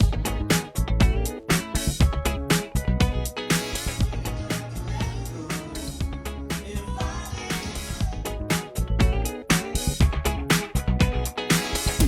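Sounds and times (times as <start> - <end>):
funk music with drums: 0.0 - 12.0.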